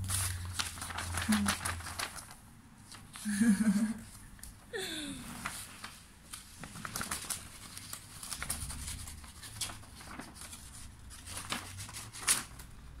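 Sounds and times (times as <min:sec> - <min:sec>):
paper rustling and tapping: 0:00.0 - 0:03.3, 0:05.3 - 0:12.7.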